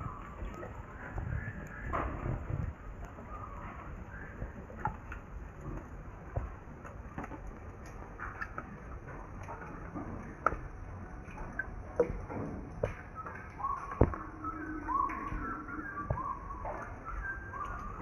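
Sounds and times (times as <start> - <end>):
raindrops ticking on surfaces: 0.0 - 18.0.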